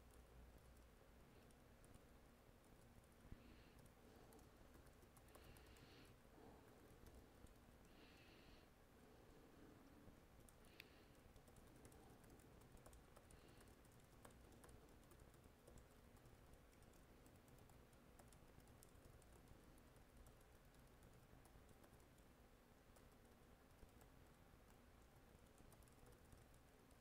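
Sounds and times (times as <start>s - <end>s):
typing on computer keyboard: 0.0s - 7.8s, 10.4s - 27.0s
low room hum: 0.0s - 27.0s.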